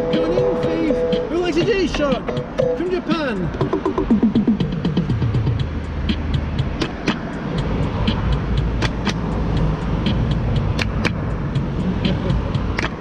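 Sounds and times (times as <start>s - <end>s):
keyboard rhythm track clicks: 0.0s - 13.0s
keyboard rhythm track ticking: 0.0s - 13.0s
road traffic rumble: 0.0s - 13.0s.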